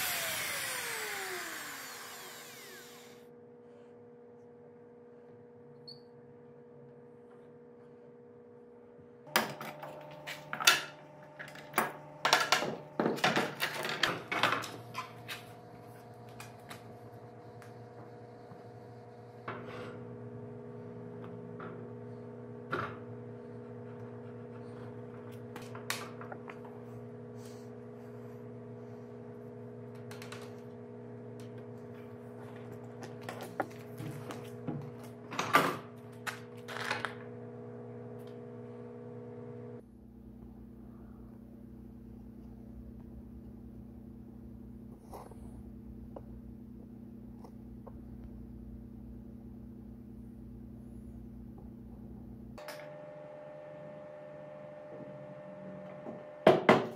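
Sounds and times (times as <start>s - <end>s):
low machine hum: 0.0s - 56.8s.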